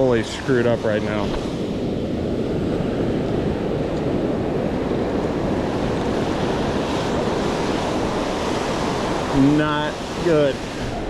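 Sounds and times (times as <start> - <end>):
ocean surf washing onto beach: 0.0 - 11.0.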